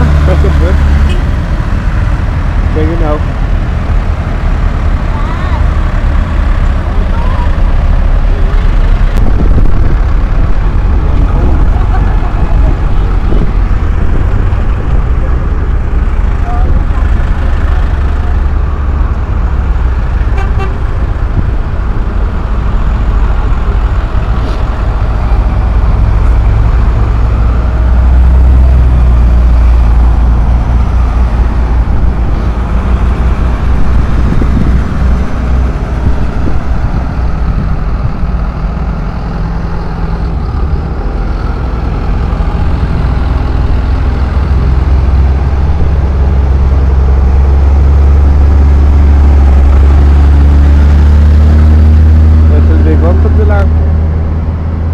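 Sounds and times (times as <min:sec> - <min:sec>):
tractor diesel engines rumbling: 0:00.0 - 0:54.9.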